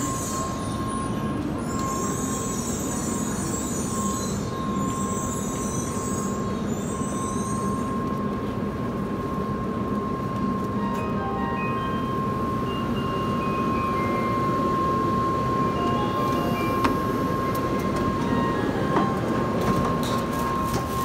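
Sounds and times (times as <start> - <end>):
steady high tone: 0.0 - 21.0
train rumble: 0.0 - 21.0.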